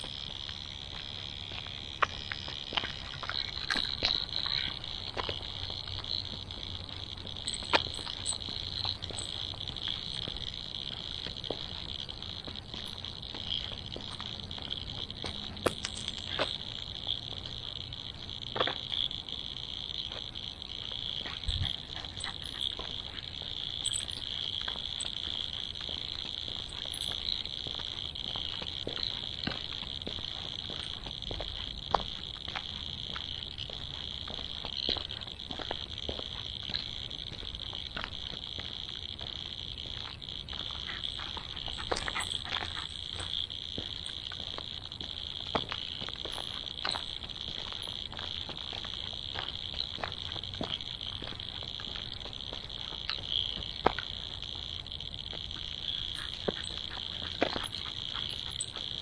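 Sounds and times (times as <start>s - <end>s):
frogs chorus: 0.0s - 59.0s.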